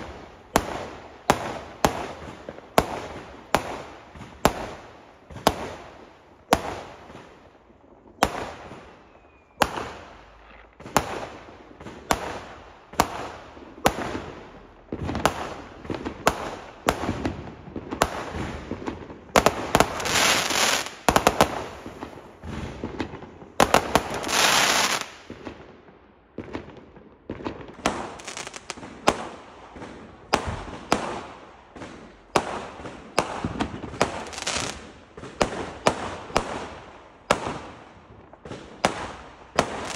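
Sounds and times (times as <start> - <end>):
fireworks bangs: 0.0 - 7.4, 8.1 - 39.9
fireworks crackling: 0.0 - 39.9.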